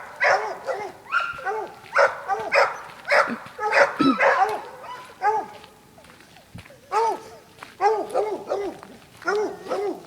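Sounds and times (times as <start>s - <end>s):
hound dogs barking: 0.0s - 5.8s, 6.7s - 10.0s.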